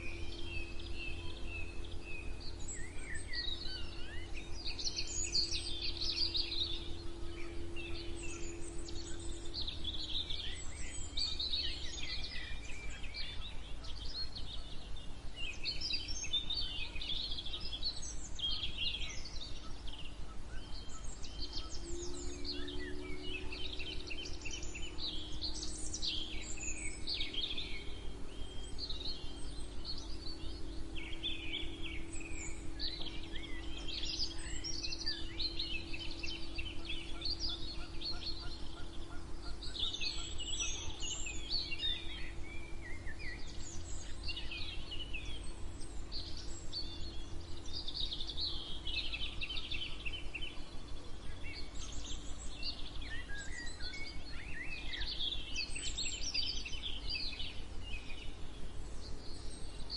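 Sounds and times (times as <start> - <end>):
low hum and rumble: 0.0 - 59.9
songbirds singing and chirping: 0.0 - 59.9.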